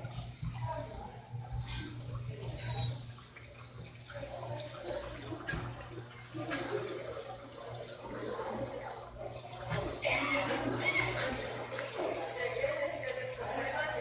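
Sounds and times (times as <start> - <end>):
tap water splashing into sink: 0.0 - 12.2.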